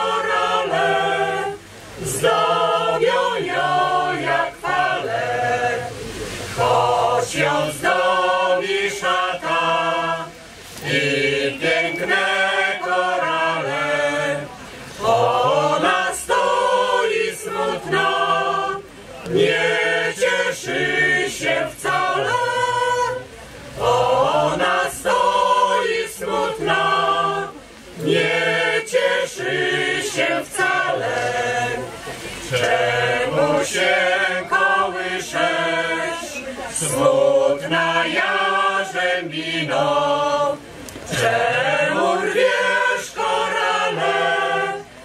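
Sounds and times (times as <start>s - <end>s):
mixed choir singing unaccompanied: 0.0s - 45.0s.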